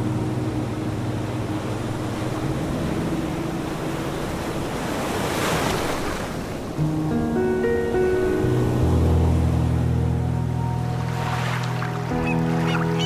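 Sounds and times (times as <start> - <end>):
soft background music: 0.0 - 5.5, 6.8 - 13.0
ocean surf washing: 0.0 - 13.0.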